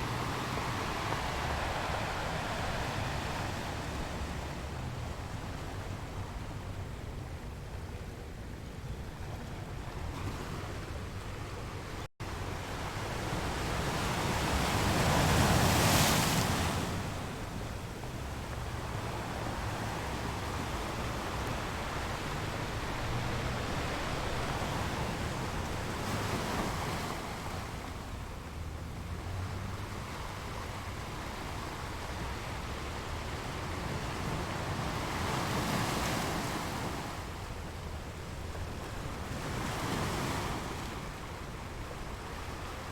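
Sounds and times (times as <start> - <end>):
waves breaking and washing in: 0.0 - 42.9.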